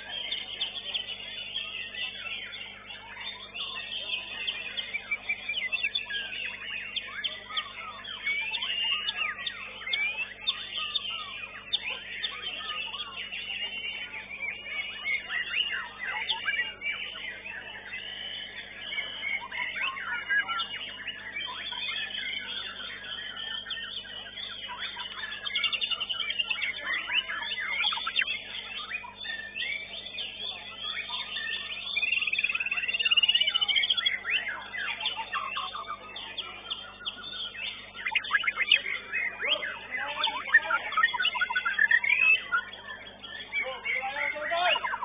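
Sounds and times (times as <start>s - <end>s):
birds singing: 0.0s - 45.0s.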